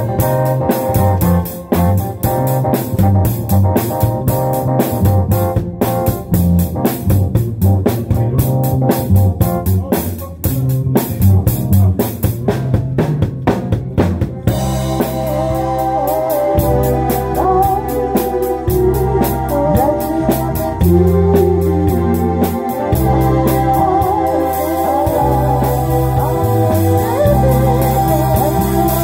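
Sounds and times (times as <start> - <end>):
drum kit beat: 0.0 - 29.0
keyboard chords with melody: 0.0 - 29.0
live band playing: 0.0 - 29.0.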